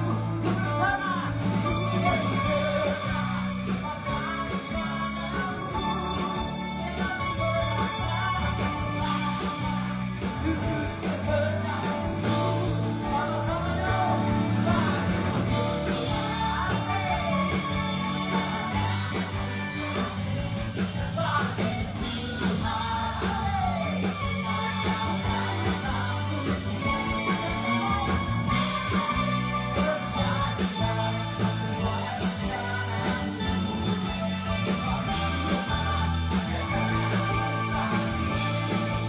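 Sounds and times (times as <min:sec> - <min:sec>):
worship song with band: 0:00.0 - 0:39.0.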